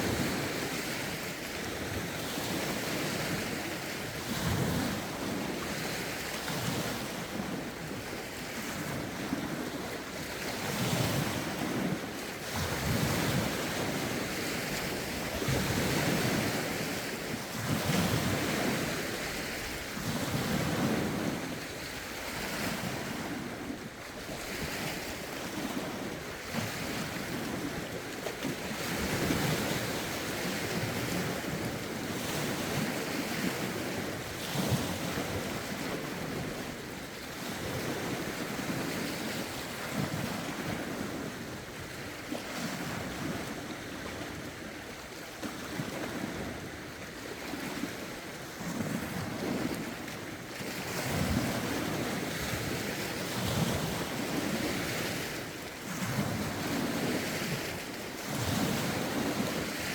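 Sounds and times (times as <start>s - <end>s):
waves lapping against shore: 0.0s - 59.9s.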